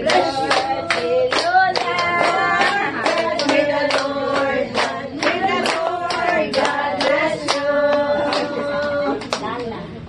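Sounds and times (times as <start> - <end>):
group of voices singing: 0.0 - 9.3
hand clapping in time: 0.0 - 9.5.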